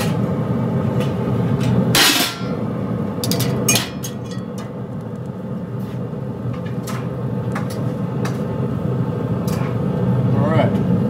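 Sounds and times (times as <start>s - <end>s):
grill low running hum: 0.0s - 11.0s.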